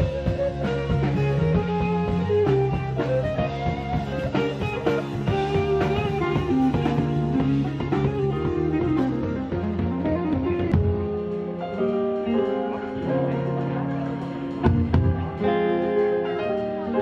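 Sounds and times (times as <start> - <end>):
bass line: 0.0 - 17.0
drum kit: 0.0 - 17.0
electric guitar: 0.0 - 17.0.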